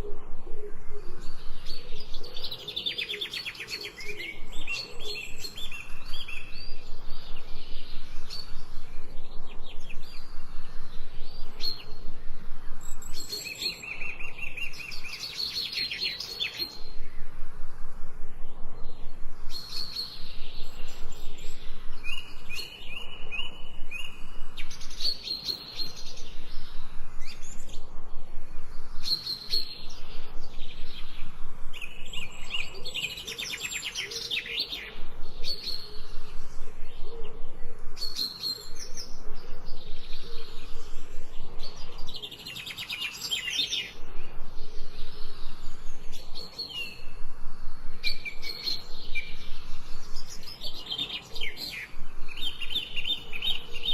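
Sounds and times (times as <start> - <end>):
songbirds singing: 0.0 - 53.9.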